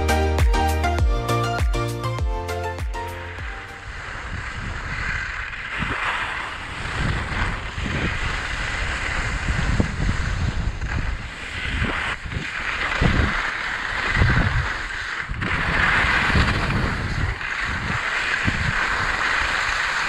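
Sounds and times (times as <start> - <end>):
skis hissing over snow: 2.5 - 20.0
wind buffeting microphone: 3.4 - 20.0.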